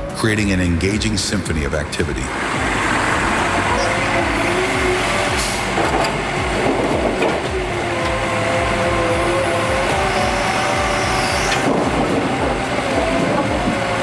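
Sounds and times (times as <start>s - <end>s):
diesel excavator engine running: 0.0s - 14.0s
hydraulic whine: 2.3s - 14.0s.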